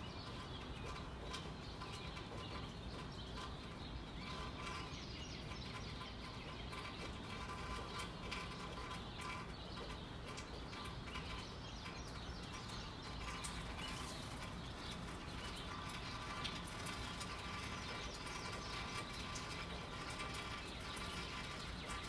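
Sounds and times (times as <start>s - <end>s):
birds chirping: 0.0s - 22.0s
gentle rain hiss: 0.0s - 22.0s.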